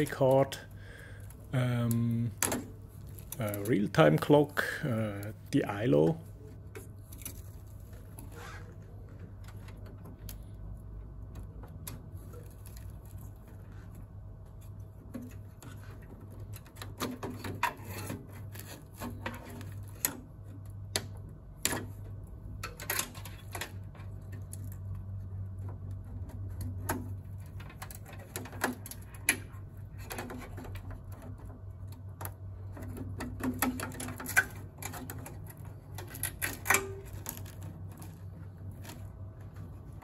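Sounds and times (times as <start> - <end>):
steady low hum: 0.0 - 40.0
clicks and knocks of metal and plastic: 1.2 - 5.3, 6.2 - 40.0.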